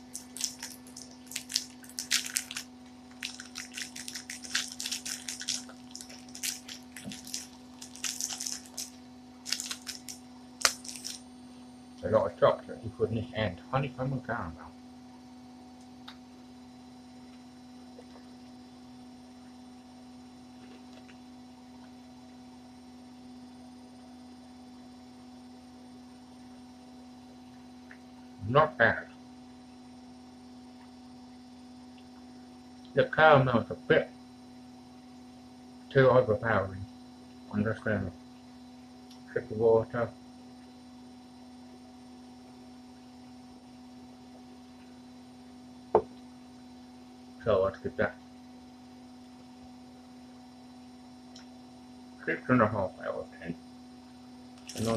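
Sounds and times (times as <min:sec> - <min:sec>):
electrical mains hum: 0:00.0 - 0:54.9.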